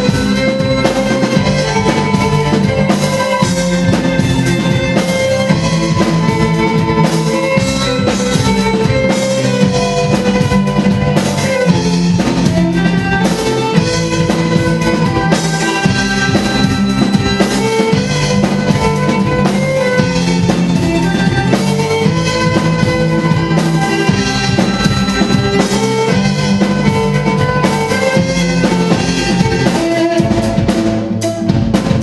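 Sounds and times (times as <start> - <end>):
rock drum kit steady beat: 0.0 - 32.0.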